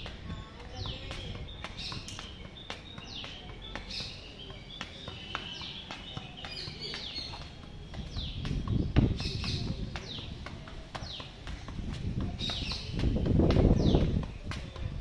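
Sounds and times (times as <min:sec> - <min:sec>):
football taps: 0:00.0 - 0:15.0.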